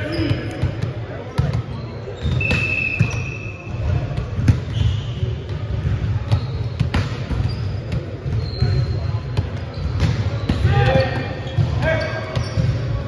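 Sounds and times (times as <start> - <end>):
low rumble of gym hall: 0.0 - 13.0
sneakers squeaking on hardwood: 1.4 - 5.5, 6.3 - 13.0.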